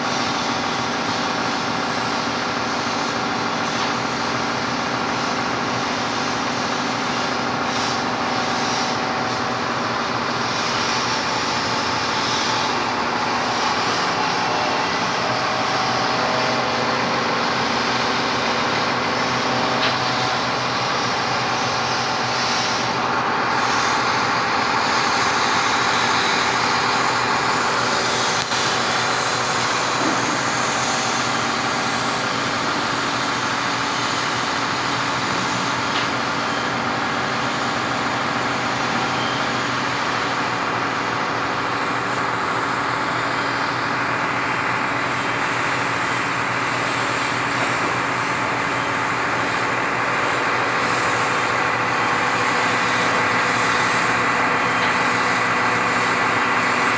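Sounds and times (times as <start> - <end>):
crane diesel engine running: 0.0 - 56.9.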